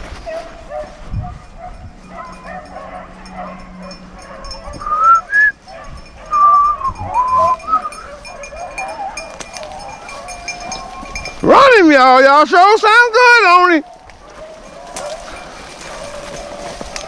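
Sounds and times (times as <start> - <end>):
dogs baying: 0.0 - 17.0.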